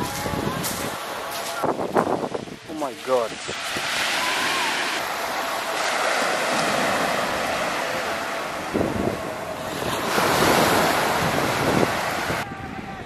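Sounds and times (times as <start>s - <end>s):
wind buffeting microphone: 0.0s - 5.0s, 5.8s - 13.0s
waves washing over sand: 0.0s - 13.0s.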